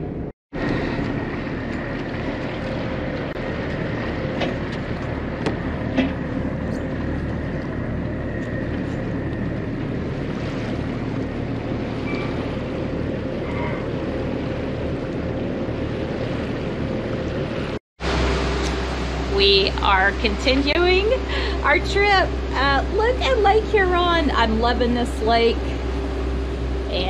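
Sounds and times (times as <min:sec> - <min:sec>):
boat engine drone: 0:00.0 - 0:27.0
water washing along hull: 0:00.0 - 0:27.0.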